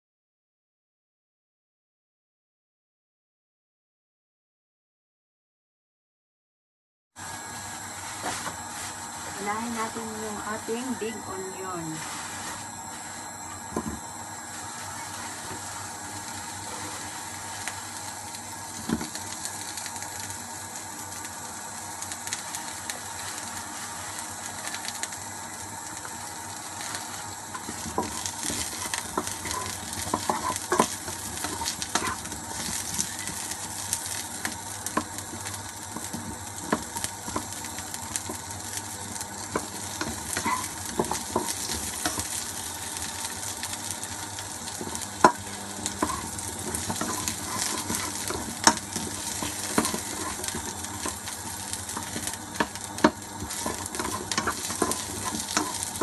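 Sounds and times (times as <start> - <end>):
onions sizzling in hot oil: 7.2 - 56.0.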